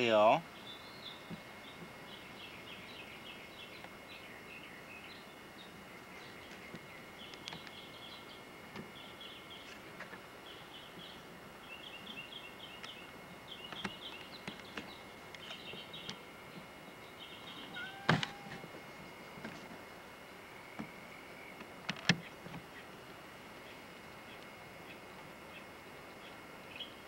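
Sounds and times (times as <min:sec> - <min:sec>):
small birds chirping: 0:00.0 - 0:19.4, 0:20.1 - 0:27.0.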